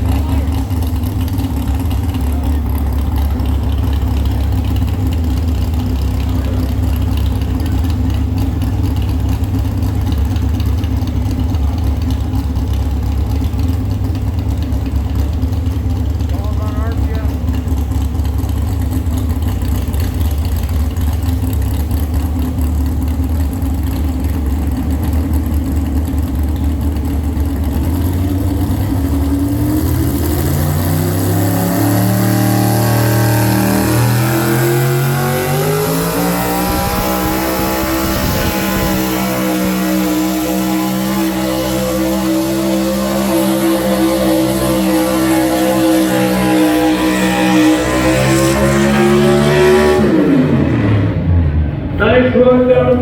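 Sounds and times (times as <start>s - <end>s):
pickup truck engine revving: 0.0s - 53.0s.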